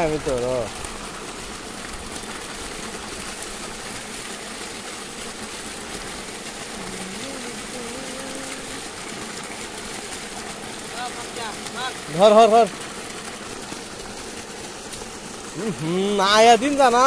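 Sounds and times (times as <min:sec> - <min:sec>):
water pump motor hum: 0:00.0 - 0:17.0
water rushing from pipe: 0:00.0 - 0:17.0.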